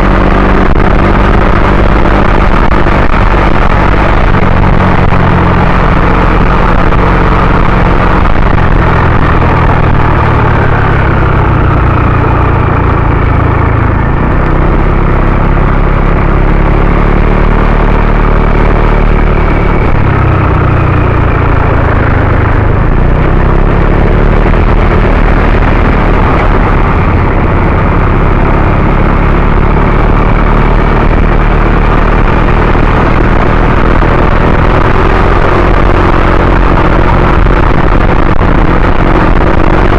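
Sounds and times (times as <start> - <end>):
vehicle engine running: 0.0 - 39.9
wind rush and road noise: 0.0 - 39.9.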